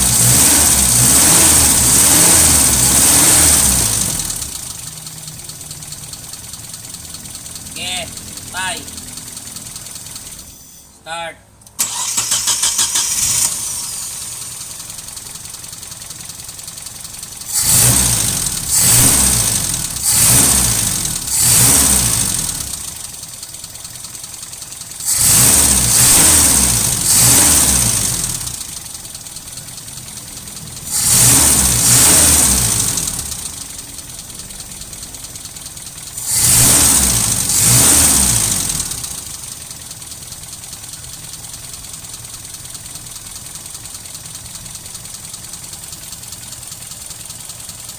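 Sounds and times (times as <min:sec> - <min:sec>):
car engine idling and revving: 0:00.0 - 0:10.9, 0:11.5 - 0:47.9.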